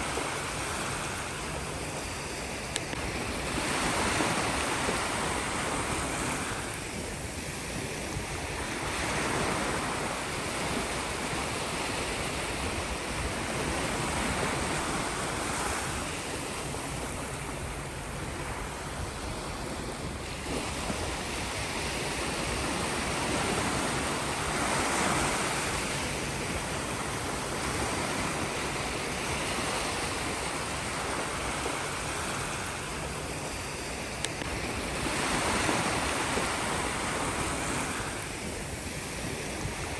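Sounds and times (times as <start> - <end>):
sea waves washing ashore: 0.0 - 39.9
wind on microphone: 0.0 - 39.9.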